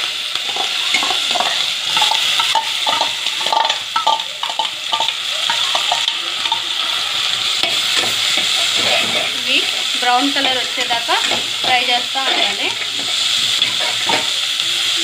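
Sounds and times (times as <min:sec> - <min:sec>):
food sizzling in hot oil: 0:00.0 - 0:15.0
metal spoon scraping a pot: 0:00.4 - 0:06.6, 0:07.6 - 0:14.4.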